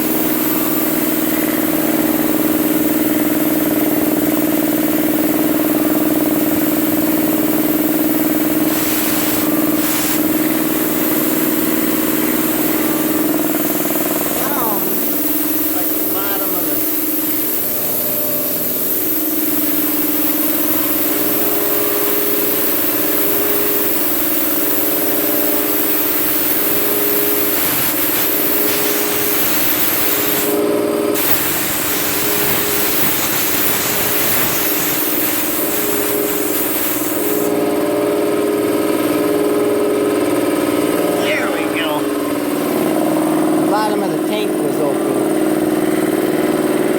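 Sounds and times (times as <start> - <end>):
air hissing from drain: 0.0 - 40.2
air compressor running: 0.0 - 46.9.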